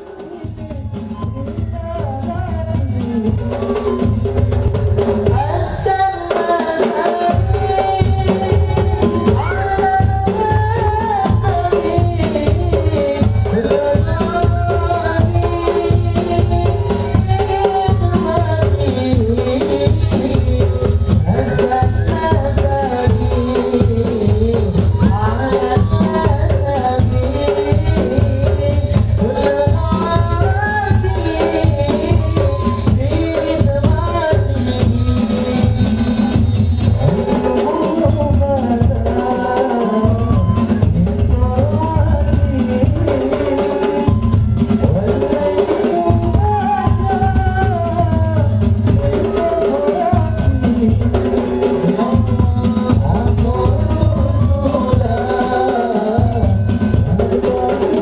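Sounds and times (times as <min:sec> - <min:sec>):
frame drums beating: 0:00.0 - 0:58.0
heavy low drum: 0:00.0 - 0:58.0
jingling percussion: 0:00.0 - 0:58.0
person singing melody: 0:00.0 - 0:58.0.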